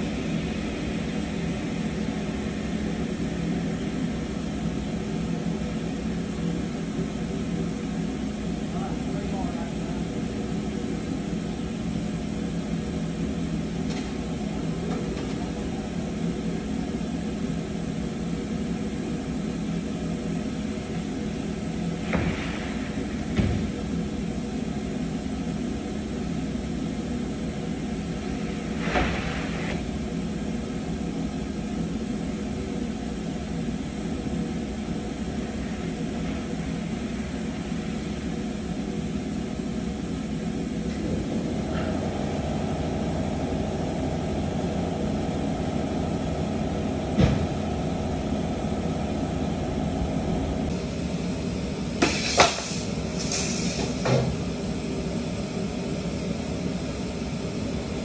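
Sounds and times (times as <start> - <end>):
machine whine: 0.0 - 58.0
woodworking machinery drone: 0.0 - 58.0.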